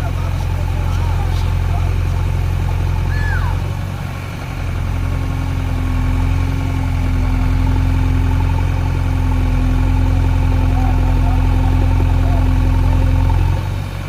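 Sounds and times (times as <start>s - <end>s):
diesel engine running at low revs: 0.0s - 14.0s
steady higher hum: 0.0s - 14.0s.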